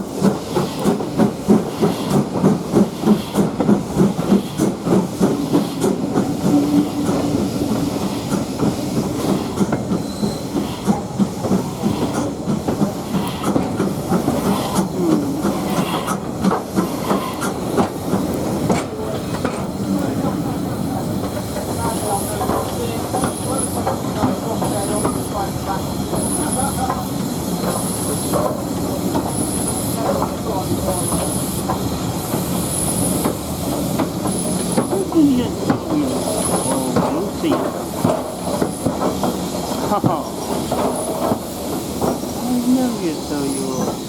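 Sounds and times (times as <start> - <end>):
train carriages rumbling: 0.0 - 44.0.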